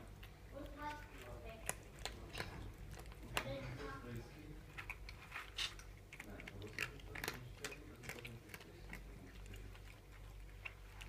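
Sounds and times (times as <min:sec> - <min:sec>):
cats chewing crunchy food: 0:00.0 - 0:11.0.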